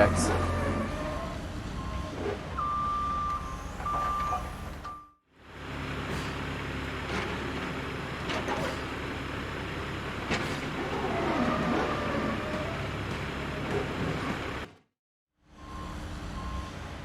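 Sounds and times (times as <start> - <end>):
diesel engine running: 0.0 - 14.8.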